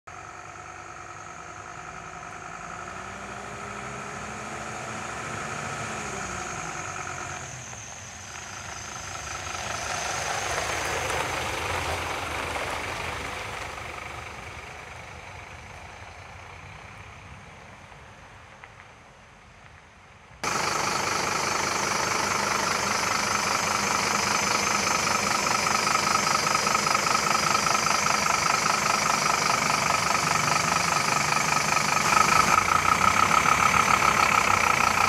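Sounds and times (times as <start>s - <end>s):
diesel truck driving past: 0.1s - 18.6s, 20.4s - 35.0s.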